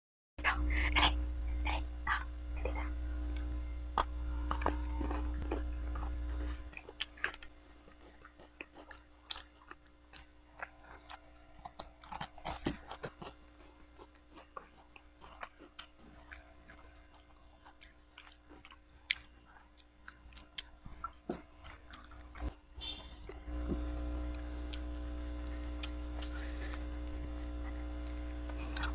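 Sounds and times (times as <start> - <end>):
chewing and crunching food: 2.6 - 28.9.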